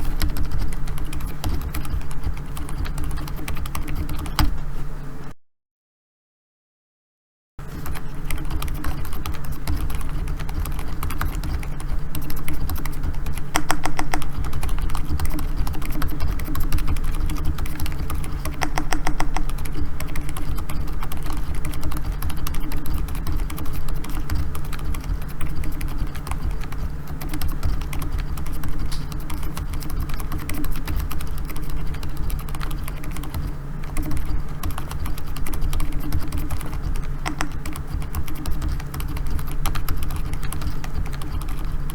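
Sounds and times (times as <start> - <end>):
fast keyboard typing: 0.0 - 4.6, 7.6 - 41.9
steady low hum: 0.0 - 5.4, 7.6 - 41.9.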